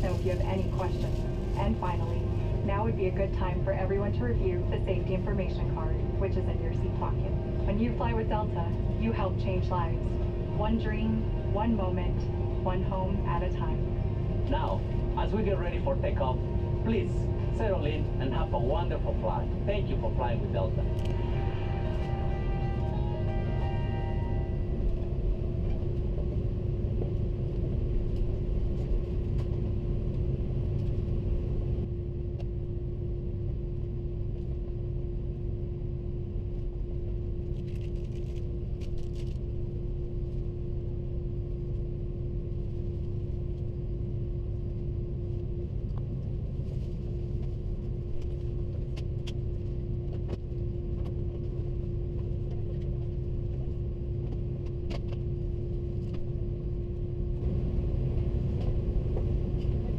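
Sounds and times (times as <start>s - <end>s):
aircraft cabin engine rumble: 0.0s - 59.9s
constant hum: 0.0s - 59.9s.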